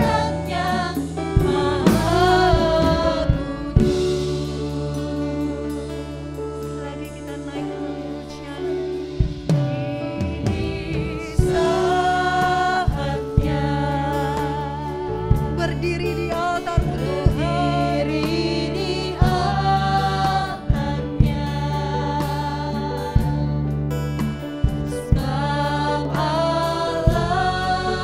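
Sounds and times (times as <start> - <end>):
band playing worship song: 0.0 - 28.0
group of singers: 0.0 - 28.0.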